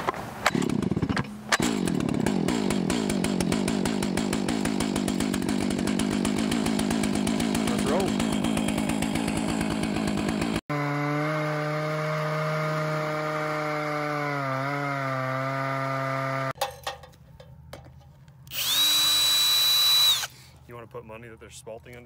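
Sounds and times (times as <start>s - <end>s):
chainsaw cutting log: 0.4s - 16.6s, 18.5s - 20.5s.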